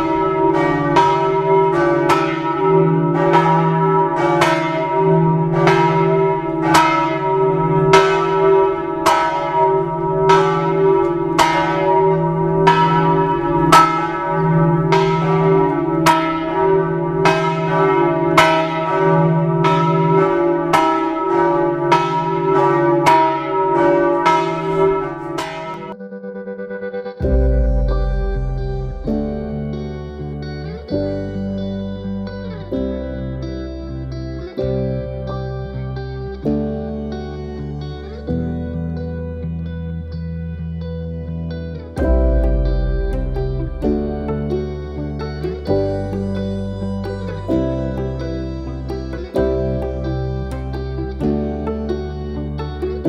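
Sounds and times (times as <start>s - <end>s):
church bells ringing: 0.0s - 26.3s, 27.2s - 39.7s, 41.9s - 53.0s.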